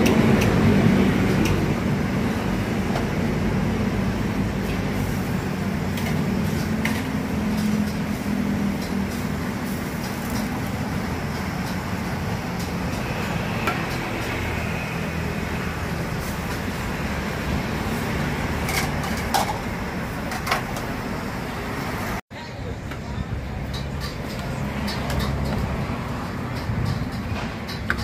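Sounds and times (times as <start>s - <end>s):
gas burners roaring: 0.0s - 28.0s
street traffic: 0.0s - 28.0s.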